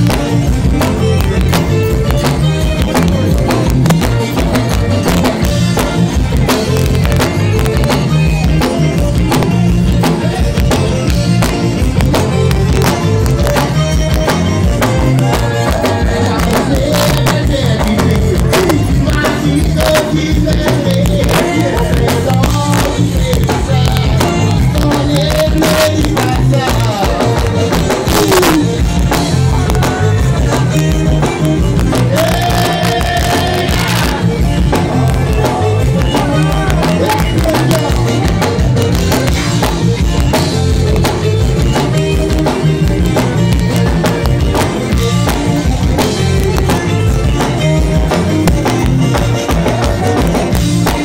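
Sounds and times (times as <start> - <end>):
accordion melody: 0.0 - 51.0
live zydeco band playing: 0.0 - 51.0.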